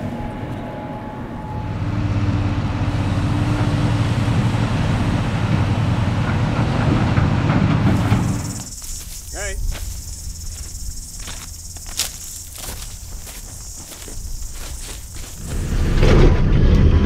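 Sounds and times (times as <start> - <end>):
engine whine: 0.0 - 17.0
large diesel engine rumbling: 0.0 - 17.0.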